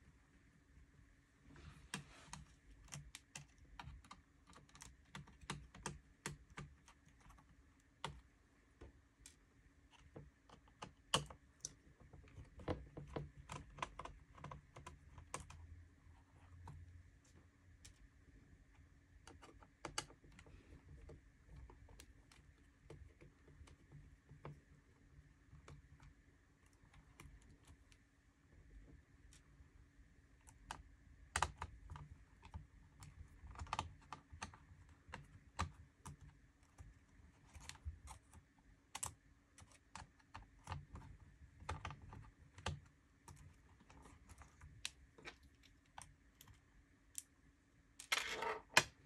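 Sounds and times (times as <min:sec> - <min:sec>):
clicks and taps on laptop keyboard: 0:01.9 - 0:18.1, 0:19.2 - 0:28.0, 0:30.4 - 0:46.6.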